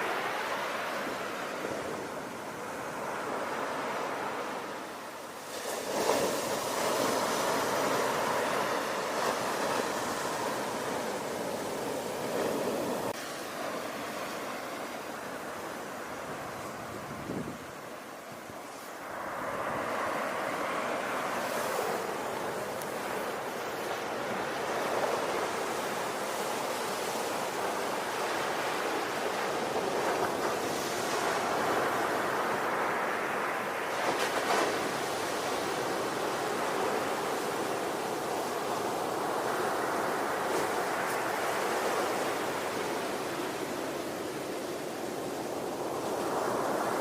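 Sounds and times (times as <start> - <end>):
ocean waves breaking on shore: 0.0 - 47.0.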